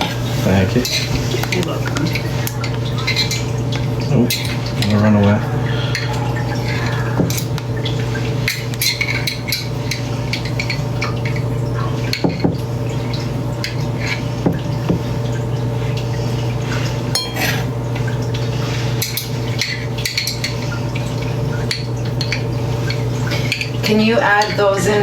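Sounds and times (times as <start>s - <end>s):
dishes and utensils clattering: 0.0s - 12.7s, 16.8s - 25.0s
steady low hum: 0.0s - 25.0s.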